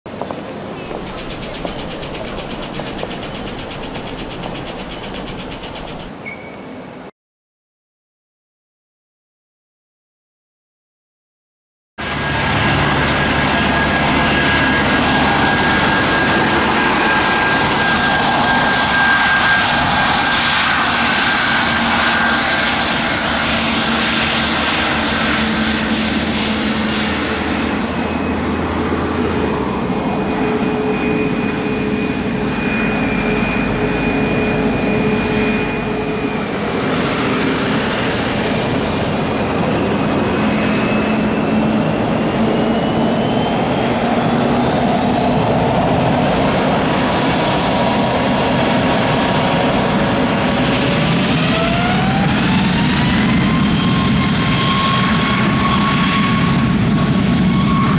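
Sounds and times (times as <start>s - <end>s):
jet engines running: 0.1s - 6.3s, 12.0s - 57.9s.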